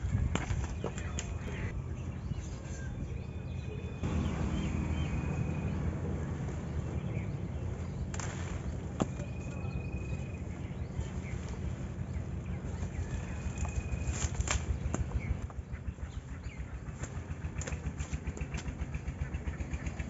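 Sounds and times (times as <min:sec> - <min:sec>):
low microphone rumble: 0:00.0 - 0:20.0
birds whistling: 0:00.5 - 0:16.9.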